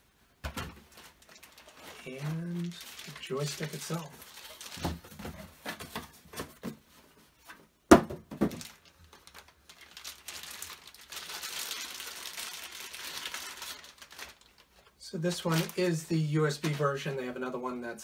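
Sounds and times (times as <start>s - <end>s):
packaging rustling: 0.7s - 6.7s, 8.4s - 17.1s.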